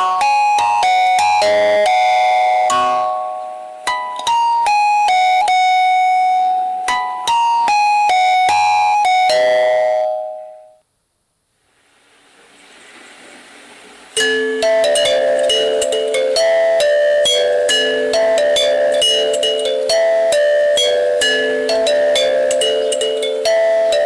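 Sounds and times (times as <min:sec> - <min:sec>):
faint hiss: 0:00.0 - 0:08.5, 0:10.4 - 0:24.0
bell-like keyboard notes: 0:00.0 - 0:10.8, 0:14.2 - 0:24.0.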